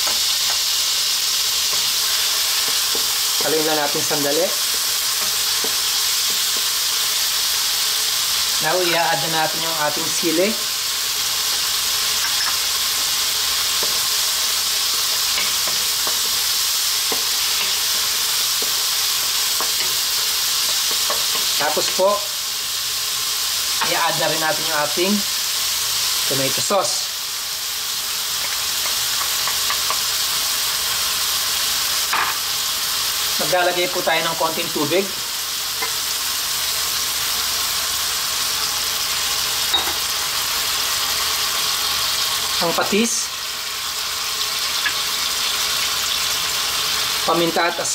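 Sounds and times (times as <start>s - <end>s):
vegetables sizzling in hot oil: 0.0s - 47.9s.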